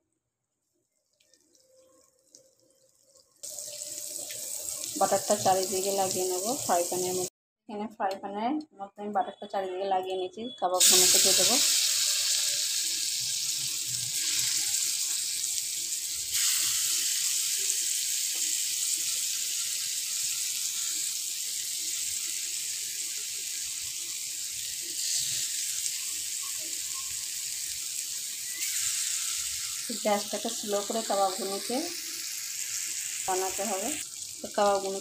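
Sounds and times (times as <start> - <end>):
meat sizzling in a pan: 1.1 - 7.3, 10.8 - 35.0.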